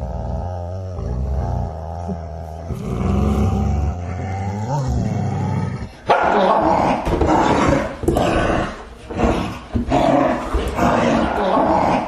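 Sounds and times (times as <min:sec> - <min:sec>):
dog groaning: 0:00.0 - 0:12.0.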